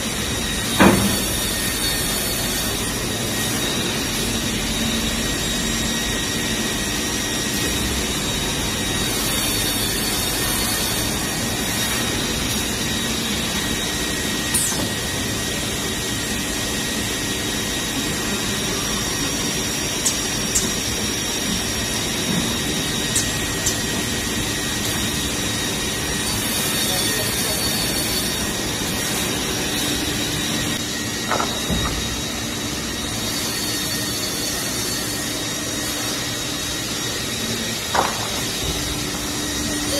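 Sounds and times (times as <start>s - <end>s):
saw machine hum and hiss: 0.0s - 39.9s
whining tones: 0.0s - 39.9s.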